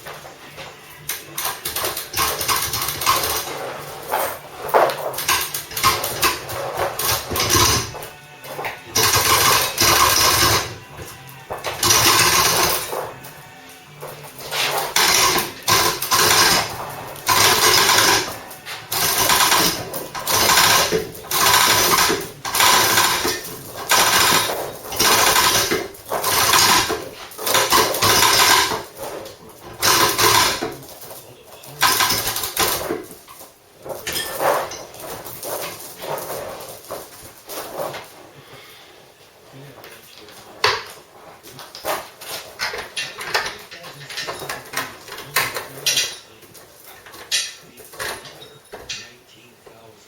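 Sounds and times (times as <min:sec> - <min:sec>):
engine hoist creaking: 0:00.0 - 0:38.8, 0:39.8 - 0:49.2.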